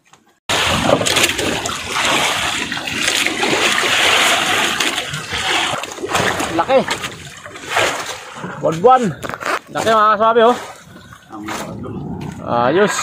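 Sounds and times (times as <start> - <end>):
sea water splashing against boat: 0.5 - 13.0.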